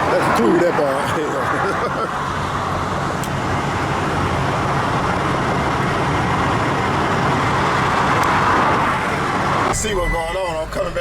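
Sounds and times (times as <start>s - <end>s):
road noise: 0.0s - 11.0s
truck engine hum: 0.0s - 11.0s.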